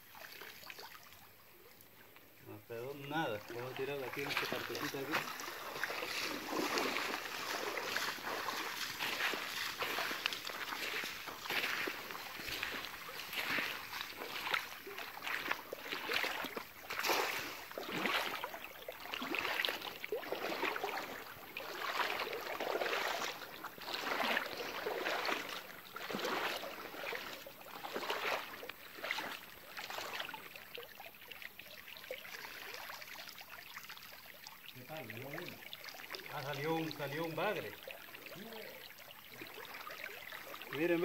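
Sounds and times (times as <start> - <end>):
river water splashing: 0.0 - 41.0.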